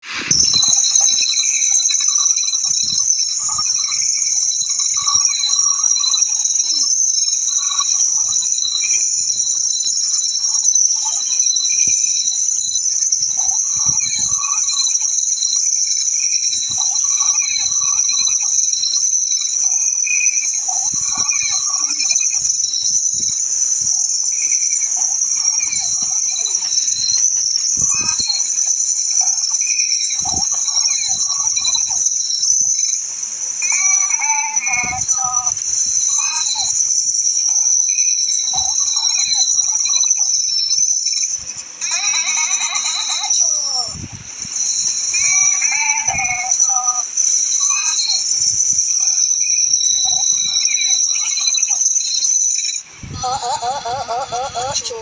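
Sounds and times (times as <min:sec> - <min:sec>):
high-pitched insect chorus: 0:00.0 - 0:55.0
lower chirping pulses: 0:00.0 - 0:55.0.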